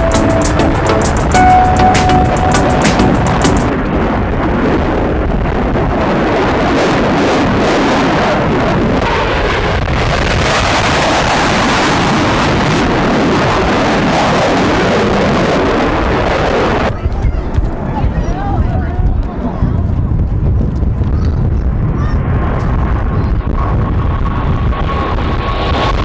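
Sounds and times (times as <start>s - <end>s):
jet engine noise: 0.0s - 26.0s
wind buffeting microphone: 3.6s - 26.0s.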